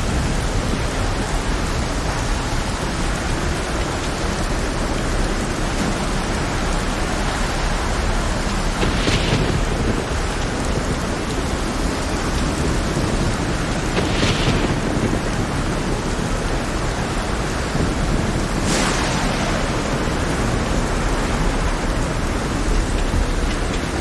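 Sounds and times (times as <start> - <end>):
deep continuous rumble: 0.0 - 24.0
heavy rain hissing: 0.0 - 24.0.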